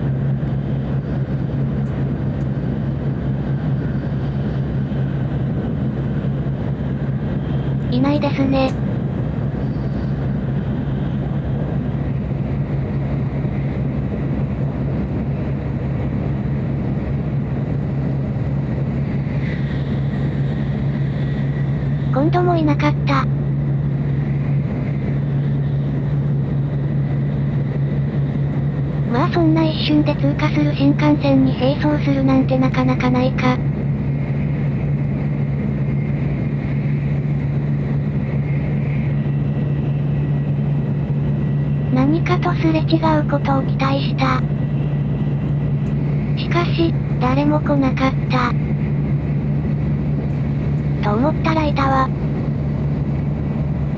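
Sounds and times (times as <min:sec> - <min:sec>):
train running rumble: 0:00.0 - 0:53.9.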